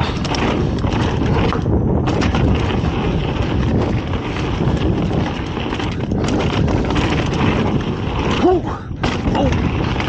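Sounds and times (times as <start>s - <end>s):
bike rattling over ground: 0.0s - 10.0s
wind buffeting microphone: 0.0s - 10.0s.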